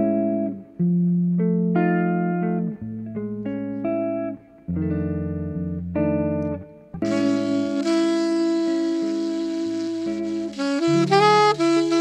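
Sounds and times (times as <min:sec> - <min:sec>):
solo jazz guitar ballad: 0:00.0 - 0:12.0.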